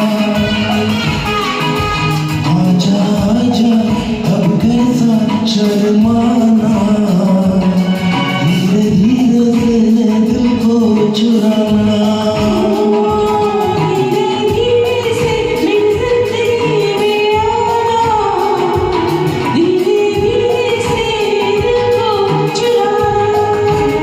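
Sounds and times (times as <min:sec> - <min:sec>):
film song with sung melody: 0:00.0 - 0:24.0.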